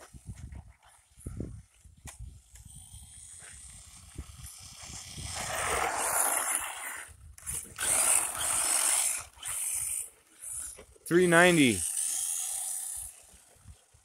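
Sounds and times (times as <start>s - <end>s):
electric motor whine: 2.4s - 14.0s.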